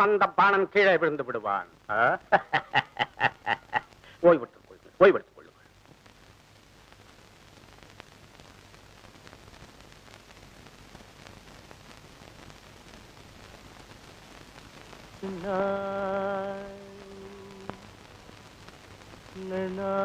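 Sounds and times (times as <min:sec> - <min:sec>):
old film soundtrack hiss: 0:00.0 - 0:20.0.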